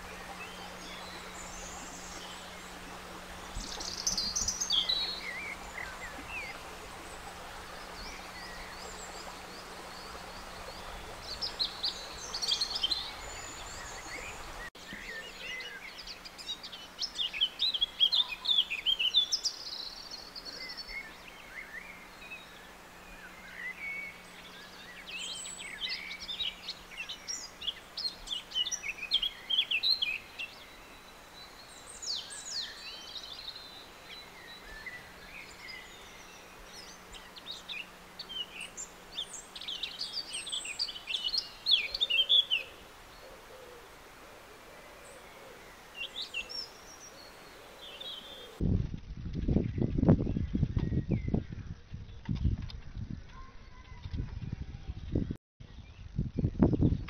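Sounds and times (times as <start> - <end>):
birds chirping and trilling: 0.0 - 48.6, 49.5 - 57.0
faint background hiss: 0.0 - 48.6
steady low hum: 0.0 - 48.8.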